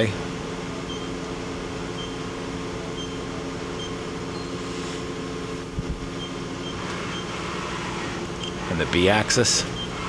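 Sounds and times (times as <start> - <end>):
machine tool humming: 0.1 - 10.0.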